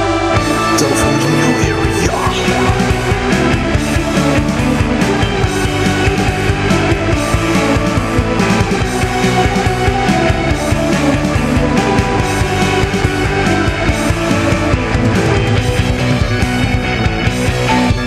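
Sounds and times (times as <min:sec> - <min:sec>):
rock band playing: 0:00.1 - 0:18.0.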